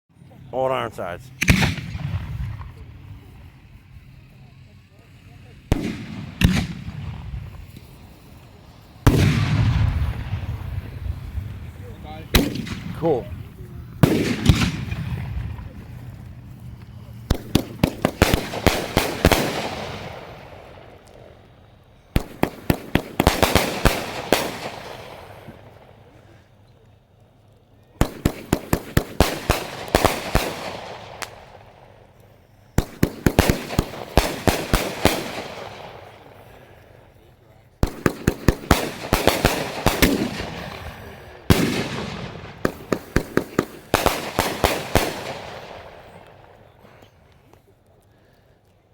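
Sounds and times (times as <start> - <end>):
rush of fireworks: 0.4 - 26.7, 27.9 - 48.7
fireworks bangs: 0.6 - 4.4, 5.4 - 26.0, 28.0 - 32.1, 32.8 - 36.9, 37.8 - 46.7.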